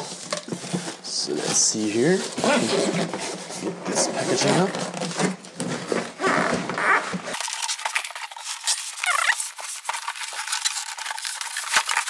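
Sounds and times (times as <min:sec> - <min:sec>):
cardboard and plastic packaging rustling: 0:00.0 - 0:12.0.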